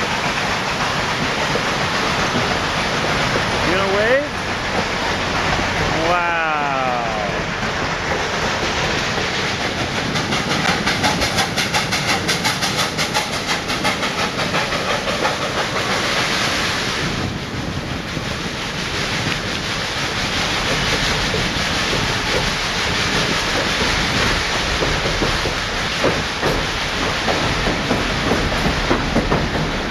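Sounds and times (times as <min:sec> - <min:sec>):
steam train passing: 0:00.0 - 0:29.9.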